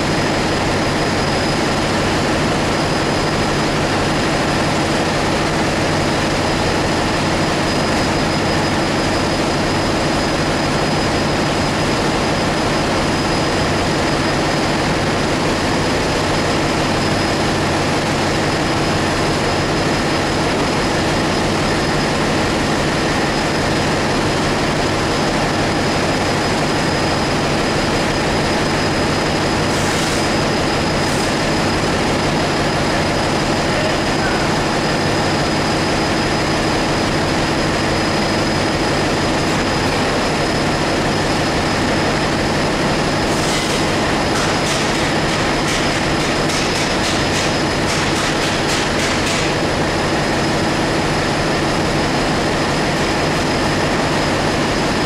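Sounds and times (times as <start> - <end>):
engine room machinery drone: 0.0 - 55.0.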